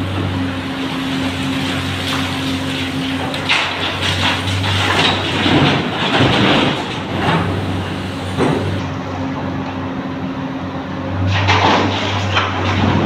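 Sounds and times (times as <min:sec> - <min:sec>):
heavy diesel engines running: 0:00.0 - 0:13.0.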